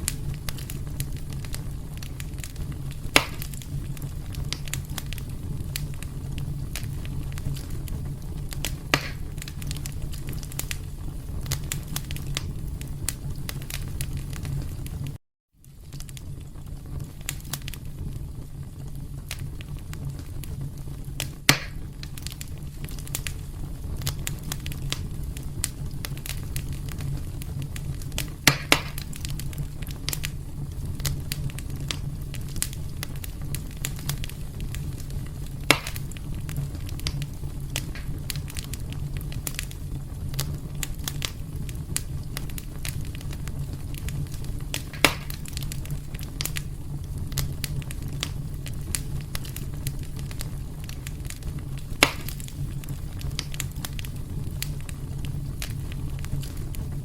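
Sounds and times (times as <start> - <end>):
fire crackling: 0.0 - 57.0
fire flames rumbling: 0.0 - 57.0
fire pops: 0.0 - 57.0.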